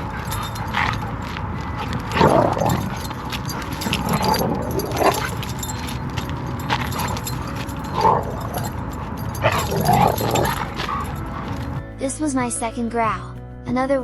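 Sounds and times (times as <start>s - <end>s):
dogs vocalizing in play: 0.0s - 11.9s.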